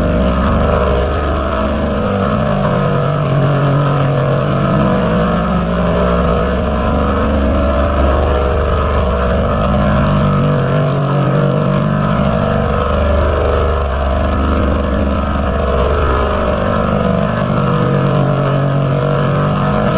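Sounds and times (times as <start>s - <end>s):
distorted buzzing drone: 0.0s - 19.9s.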